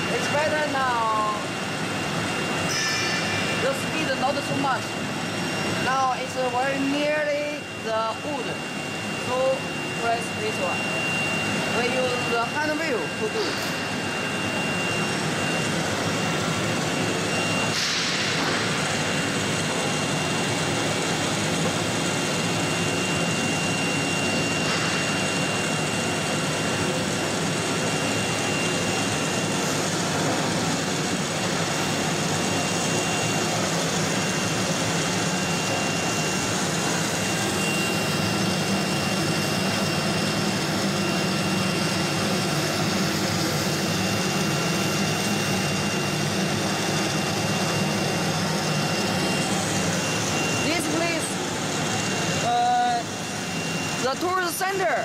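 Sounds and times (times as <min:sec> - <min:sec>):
thin high whine: 0:00.0 - 0:55.0
vacuum pump drone: 0:00.0 - 0:55.0.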